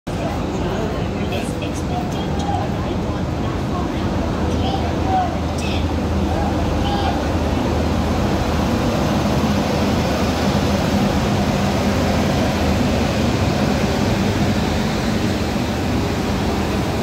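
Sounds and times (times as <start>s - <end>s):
low locomotive hum: 0.1s - 17.0s
train wheels rumbling on rails: 0.1s - 17.0s.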